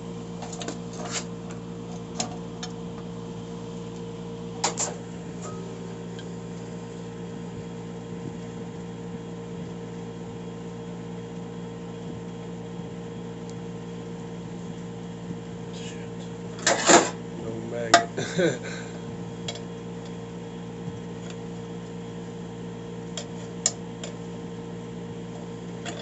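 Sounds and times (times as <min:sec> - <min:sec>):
fan or motor humming: 0:00.0 - 0:26.0.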